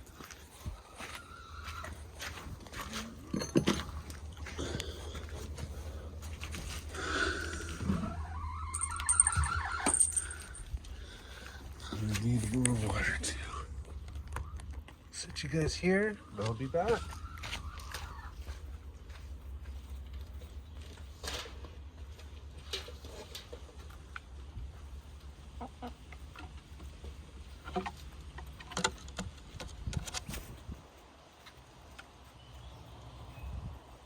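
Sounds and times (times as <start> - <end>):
hens clucking: 0.1 - 10.1, 11.1 - 20.7, 21.9 - 33.3.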